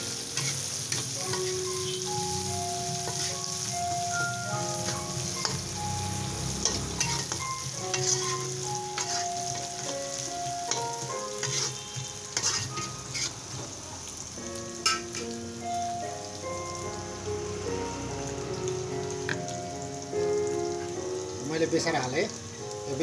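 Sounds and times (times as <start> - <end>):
onions sizzling in hot oil: 0.0 - 23.0.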